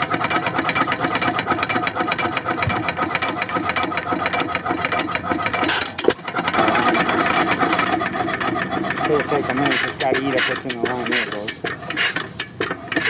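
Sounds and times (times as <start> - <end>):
stationary gas engine running: 0.0 - 13.0.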